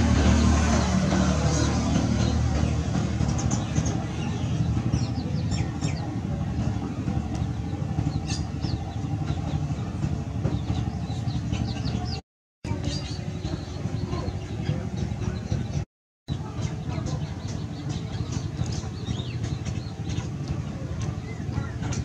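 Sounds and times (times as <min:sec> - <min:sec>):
birds chirping: 0:00.0 - 0:22.0
low rumble: 0:00.0 - 0:22.0.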